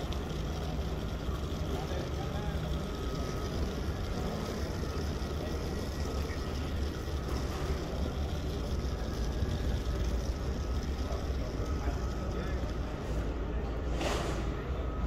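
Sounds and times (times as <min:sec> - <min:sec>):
airport hall rumble and hiss: 0:00.0 - 0:15.0.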